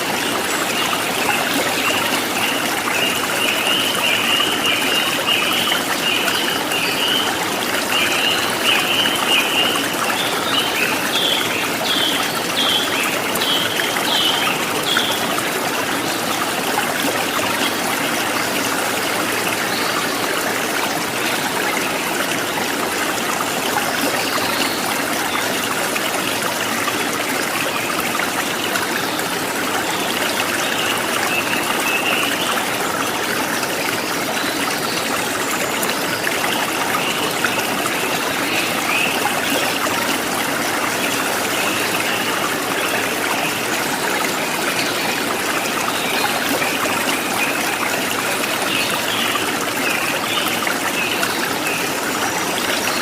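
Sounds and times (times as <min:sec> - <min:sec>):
stream of running water: 0:00.0 - 0:53.0.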